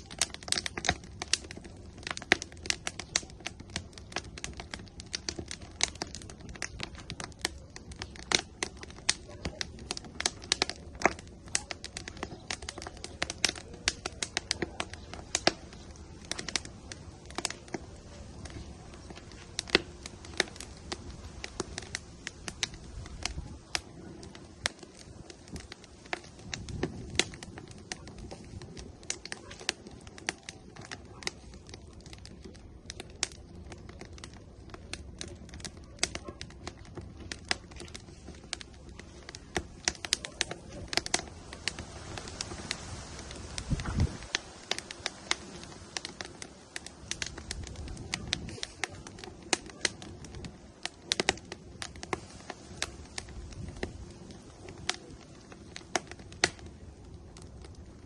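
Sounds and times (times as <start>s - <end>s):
firewood crackling and popping: 0.0s - 58.0s
rush of flame: 0.0s - 58.0s.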